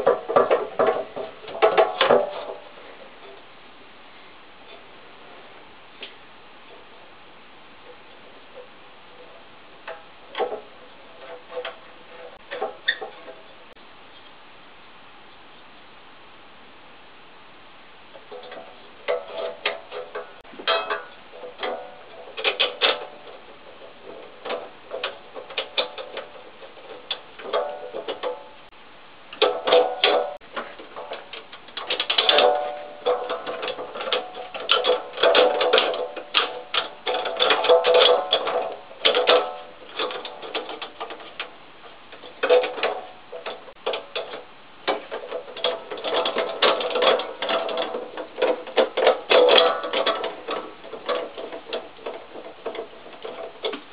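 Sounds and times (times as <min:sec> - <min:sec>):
metallic clanks and knocks: 0:00.0 - 0:03.4, 0:07.8 - 0:13.8, 0:18.1 - 0:28.7, 0:29.3 - 0:53.9.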